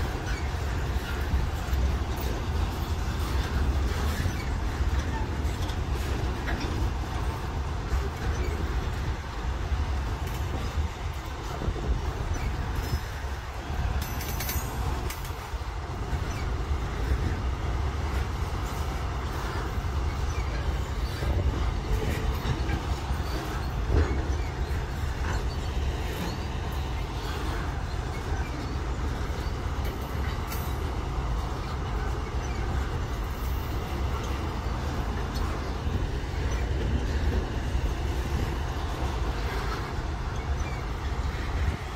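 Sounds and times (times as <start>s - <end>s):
rail clicks: 0.0s - 41.9s
train rumbling on rails: 0.0s - 41.9s.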